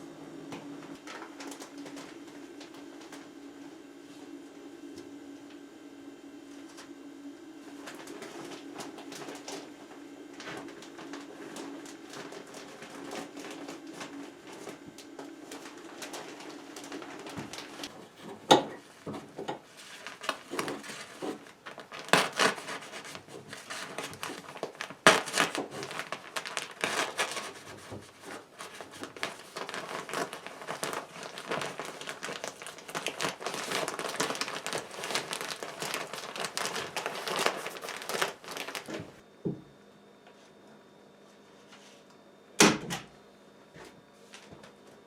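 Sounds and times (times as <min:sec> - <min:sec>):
insulation crinkling and rustling: 0:00.0 - 0:39.2, 0:43.7 - 0:45.0.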